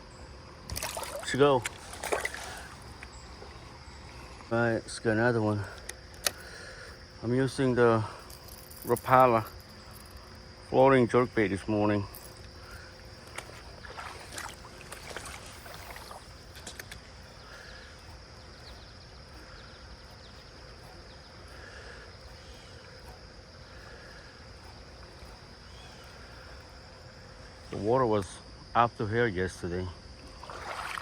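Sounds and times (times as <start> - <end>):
creek water running: 0.0 - 28.3, 30.1 - 31.0
insect trill: 0.0 - 31.0
fishing reel clicks and rustles: 0.7 - 28.4.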